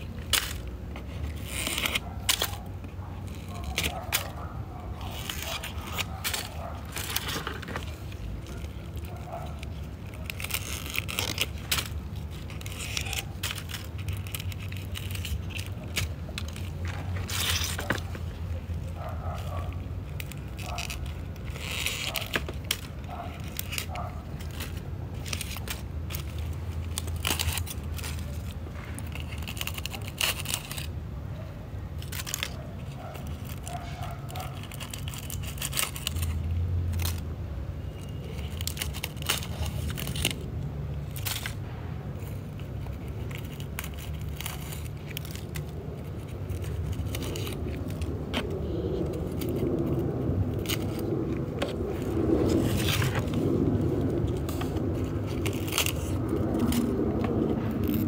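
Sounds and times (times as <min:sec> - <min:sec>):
dry leaves crackling and snapping: 0:00.0 - 0:58.0.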